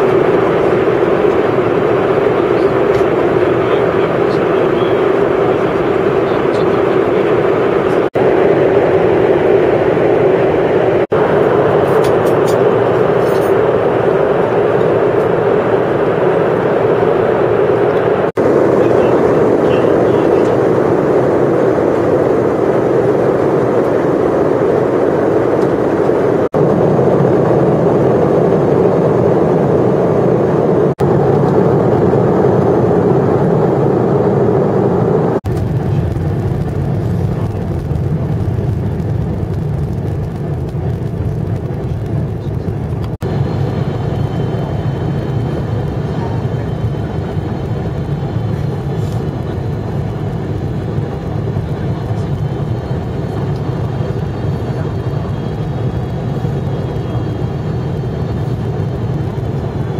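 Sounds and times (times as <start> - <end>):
airliner cabin jet noise: 0.0 - 59.9.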